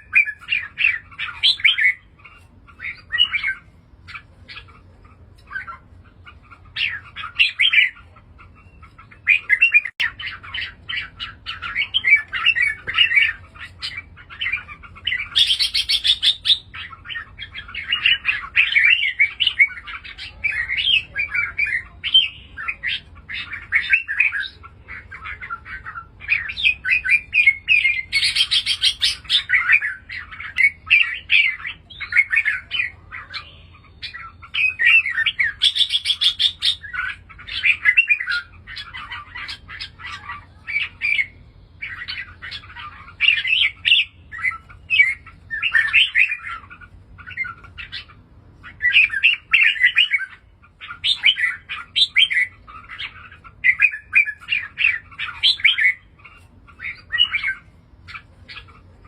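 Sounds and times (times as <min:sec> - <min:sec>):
bulbul chirping song: 0:00.0 - 0:59.0.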